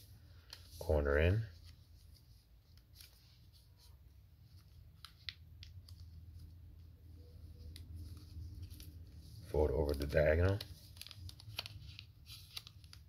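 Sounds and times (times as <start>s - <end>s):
paper rustling and creasing: 0.0s - 13.0s.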